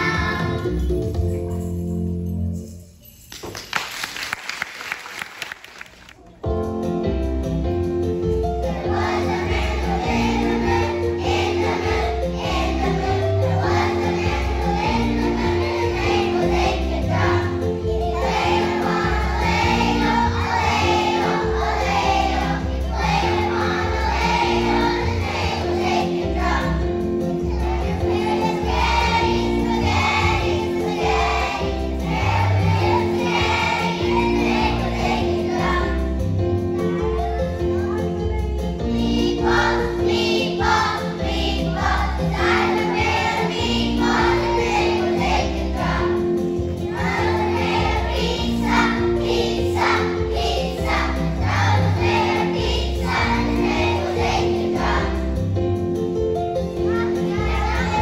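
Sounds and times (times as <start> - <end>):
children's choir singing: 0.0 - 1.0, 8.6 - 37.0, 38.8 - 55.4, 56.8 - 58.0
instrumental accompaniment with bass: 0.0 - 3.0, 6.4 - 58.0.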